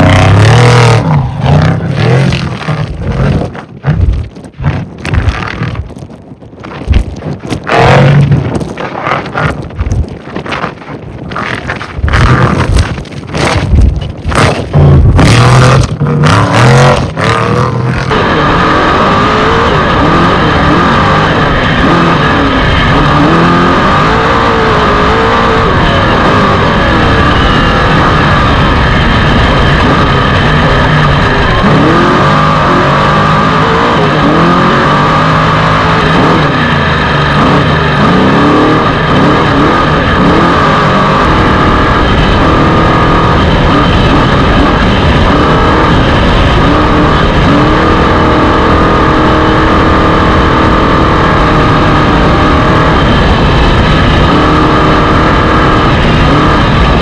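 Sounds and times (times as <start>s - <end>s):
truck engine running hard: 0.0s - 6.6s, 7.2s - 57.0s
loud gusts: 0.0s - 57.0s
road and wind noise: 0.0s - 57.0s.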